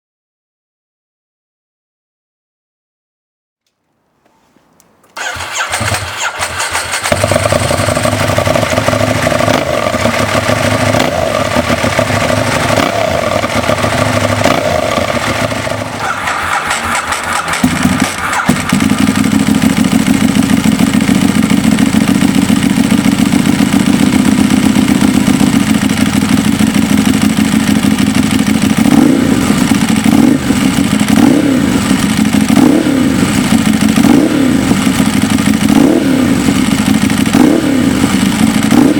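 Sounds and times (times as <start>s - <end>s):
motorcycle engine idling: 5.2s - 38.9s.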